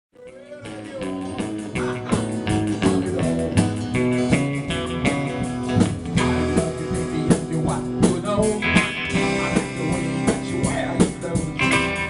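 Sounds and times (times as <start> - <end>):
band playing rockabilly: 0.2 - 12.0
electric guitar: 0.2 - 12.0.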